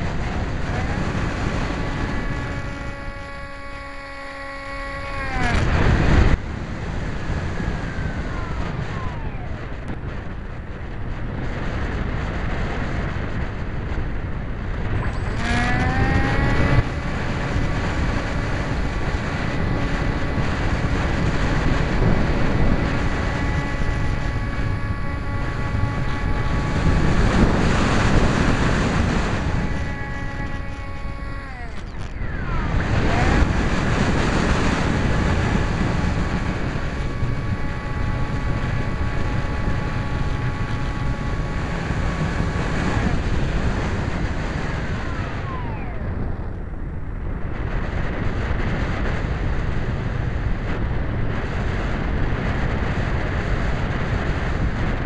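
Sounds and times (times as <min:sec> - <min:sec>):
electric motor propeller whining: 0:00.0 - 0:55.0
wind rushing over microphone: 0:00.0 - 0:55.0.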